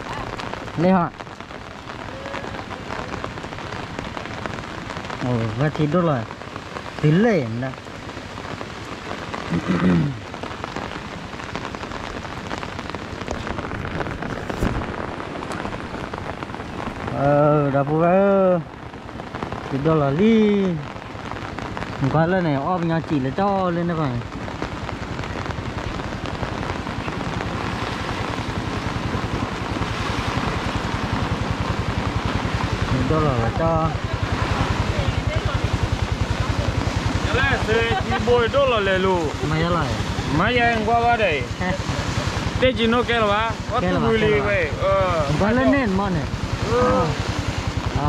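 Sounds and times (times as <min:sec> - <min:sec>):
rain pattering: 0:00.0 - 0:48.0
river rushing: 0:00.0 - 0:48.0
wind rumble on microphone: 0:00.0 - 0:48.0.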